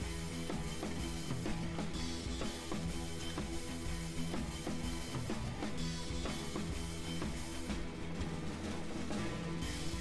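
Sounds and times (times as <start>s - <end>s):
background music with drums: 0.0s - 10.0s.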